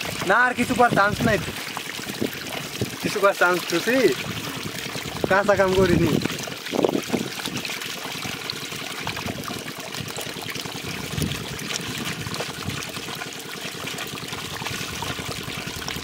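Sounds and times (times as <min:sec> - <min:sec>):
small splashes: 0:00.0 - 0:16.0
water trickling and pouring: 0:00.0 - 0:16.0.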